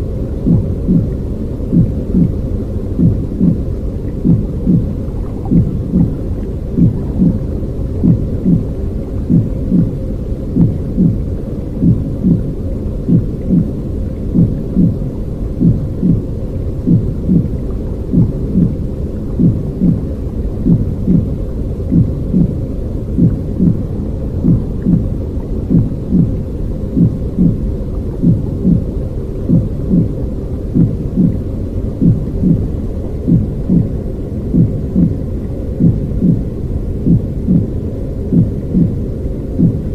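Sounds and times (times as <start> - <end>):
muffled womb whoosh with heartbeat: 0.0 - 39.9.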